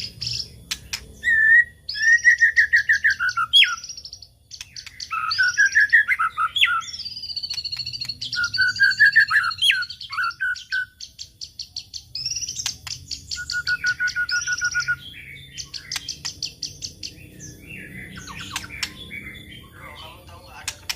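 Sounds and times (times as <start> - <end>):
songbird singing rapid varied song: 0.0 - 20.9.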